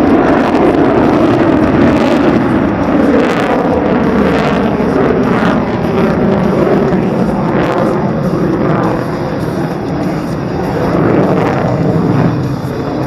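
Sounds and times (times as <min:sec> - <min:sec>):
helicopter rotor and turbine: 0:00.0 - 0:13.0.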